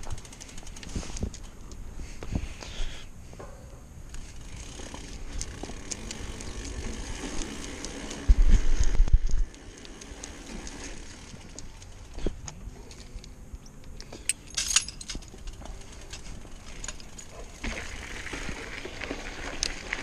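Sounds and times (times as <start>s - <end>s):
bicycle tyre noise on pavement: 0.0s - 14.2s, 15.1s - 20.0s.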